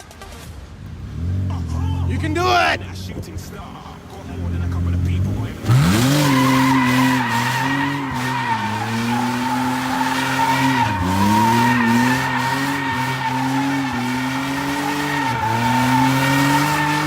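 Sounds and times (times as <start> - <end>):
car engine at high revs: 0.0 - 17.0
tyres squealing: 1.4 - 17.0.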